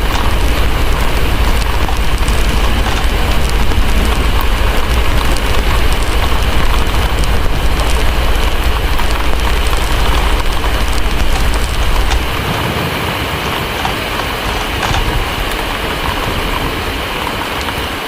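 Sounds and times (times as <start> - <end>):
deep rumble: 0.0 - 18.0
heavy rain: 0.0 - 18.0
wood fire crackling: 0.0 - 18.0.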